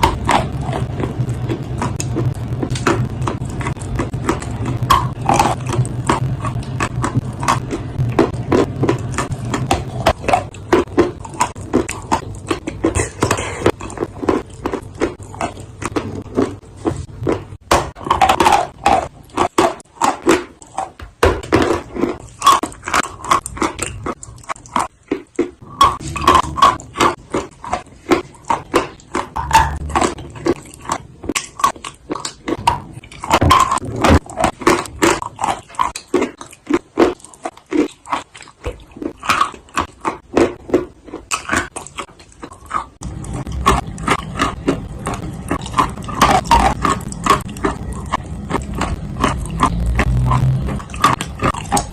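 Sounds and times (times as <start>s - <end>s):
clay being chewed crunching: 0.0s - 51.9s.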